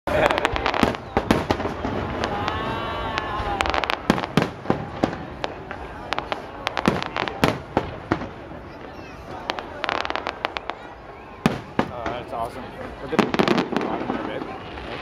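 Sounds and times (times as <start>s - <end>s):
fireworks bangs: 0.1s - 15.0s.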